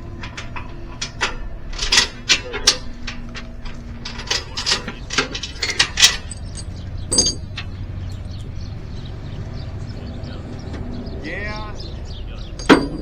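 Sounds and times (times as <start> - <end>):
low steady hum: 0.0 - 13.0
steel chain clanking: 0.0 - 13.0.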